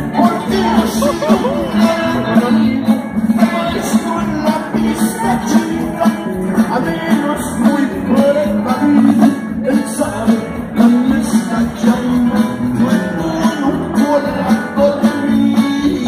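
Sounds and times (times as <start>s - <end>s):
live band music over sound system: 0.0s - 16.0s.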